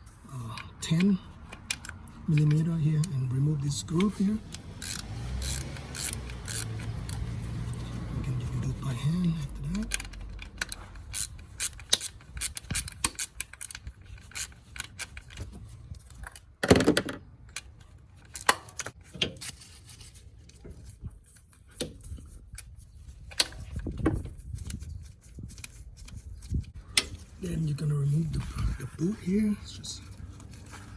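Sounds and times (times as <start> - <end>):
small metallic clicks and scrapes: 0.0 - 16.6, 17.4 - 30.9.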